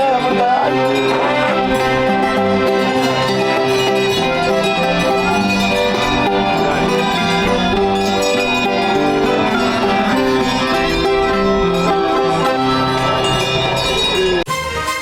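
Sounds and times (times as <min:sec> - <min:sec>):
strings and accordion folk music: 0:00.0 - 0:15.0.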